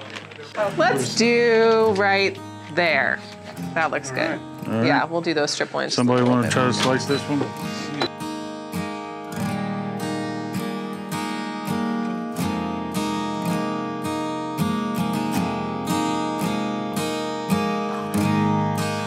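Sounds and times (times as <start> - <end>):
acoustic guitar strumming: 0.6 - 19.0.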